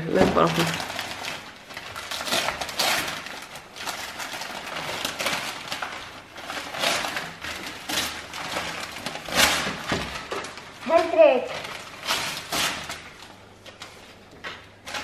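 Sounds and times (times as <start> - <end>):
wrapping paper tearing and crumpling: 0.0 - 15.0.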